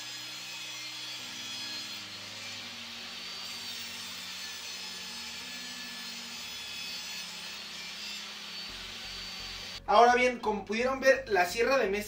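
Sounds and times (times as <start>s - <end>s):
table saw cutting wood: 0.0s - 10.0s.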